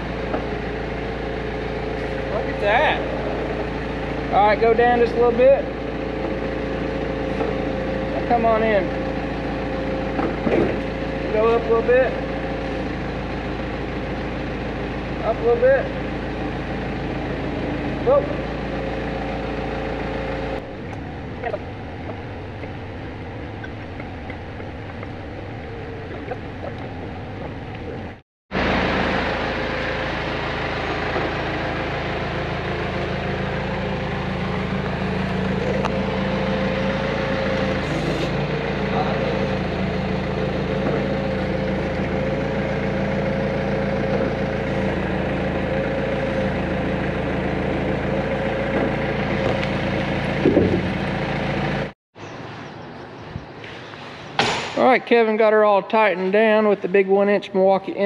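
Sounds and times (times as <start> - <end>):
engine running steadily: 0.0 - 52.0.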